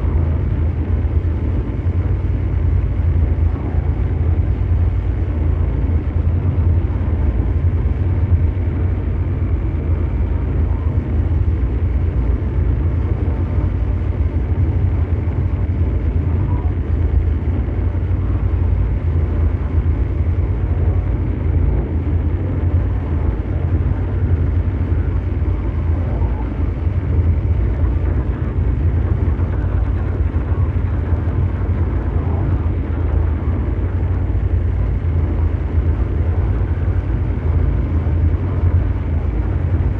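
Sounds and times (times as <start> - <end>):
deep mechanical drone: 0.0 - 39.9.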